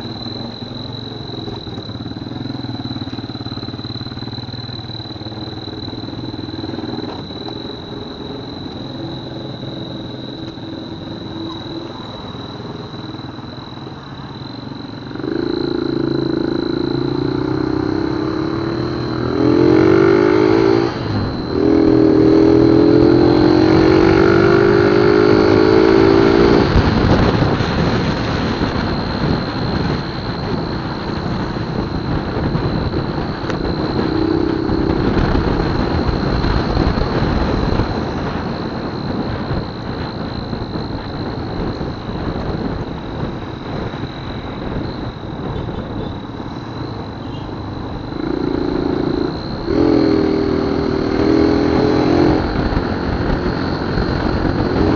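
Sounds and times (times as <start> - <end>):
exhaust whistle wavering tone: 0.0 - 54.9
motorcycle engine idling and revving: 0.0 - 54.9.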